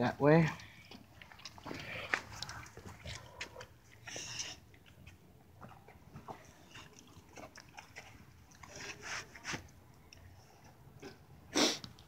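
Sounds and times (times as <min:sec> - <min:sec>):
dog chewing: 0:00.6 - 0:11.2.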